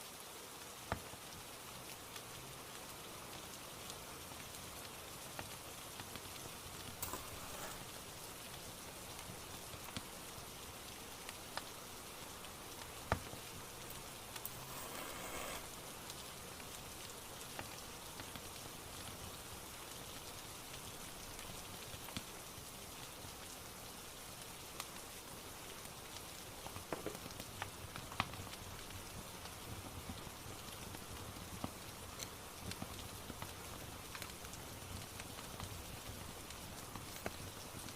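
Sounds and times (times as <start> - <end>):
steady rain: 0.0 - 37.9
wood fire crackling and popping: 0.3 - 37.9.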